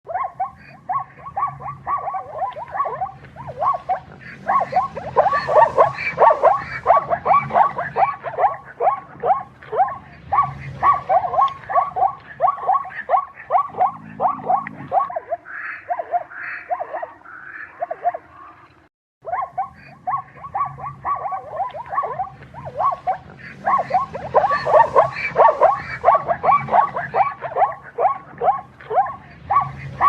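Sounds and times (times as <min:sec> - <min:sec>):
animal yelping calls: 0:00.1 - 0:18.6, 0:19.2 - 0:30.0.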